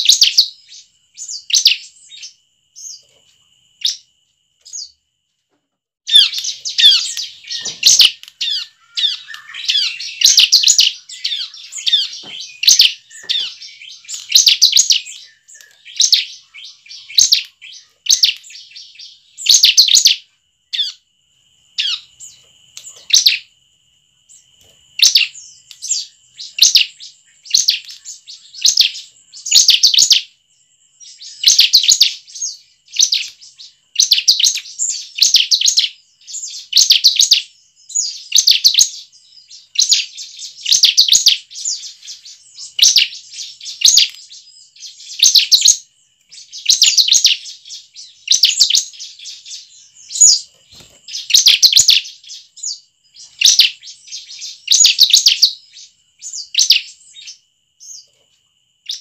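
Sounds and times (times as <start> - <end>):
bird chirping in sharp bursts: 0.0 - 5.0, 6.0 - 21.0, 21.6 - 23.5, 24.3 - 58.2.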